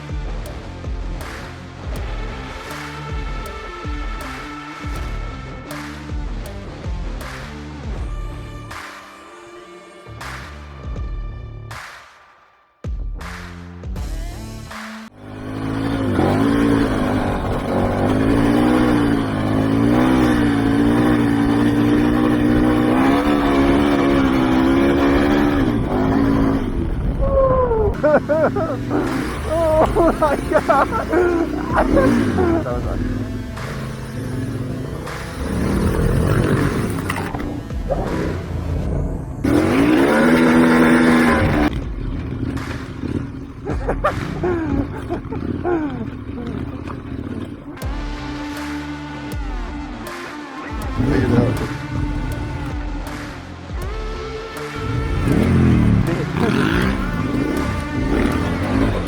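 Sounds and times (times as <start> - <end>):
motorcycle engine running: 0.0 - 8.8, 13.8 - 59.0.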